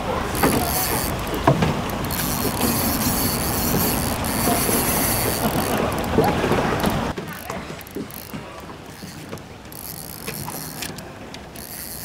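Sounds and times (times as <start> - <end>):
fishing reel clattering: 0.3 - 12.0.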